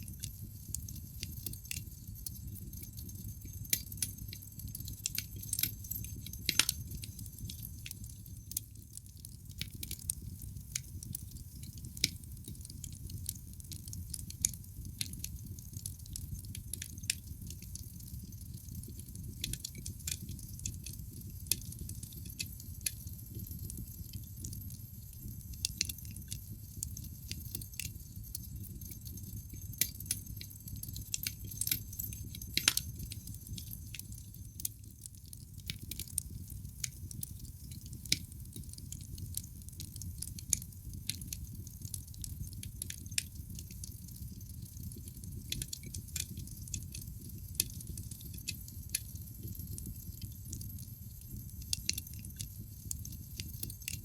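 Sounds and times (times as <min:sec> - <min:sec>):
burning logs crackling and popping: 0:00.0 - 0:54.0
low rumble of flames: 0:00.1 - 0:54.0.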